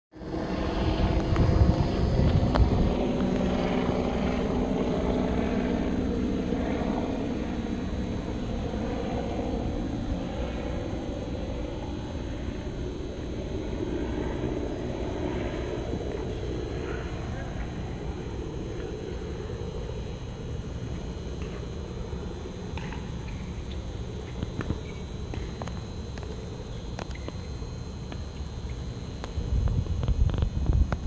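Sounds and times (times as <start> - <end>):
distant engine droning: 0.2 - 31.0.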